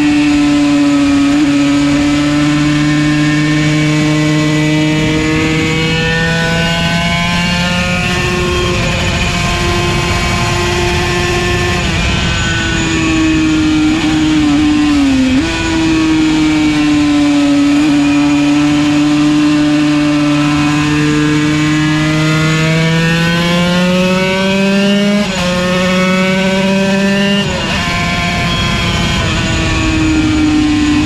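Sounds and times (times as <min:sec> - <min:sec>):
two-stroke engine revving hard: 0:00.0 - 0:31.0.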